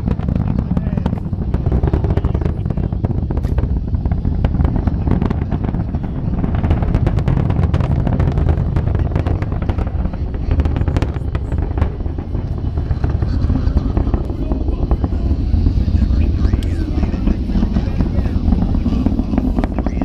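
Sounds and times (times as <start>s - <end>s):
rocket exhaust crackling: 0.0s - 20.0s
rocket launch deep rumble: 0.0s - 20.0s.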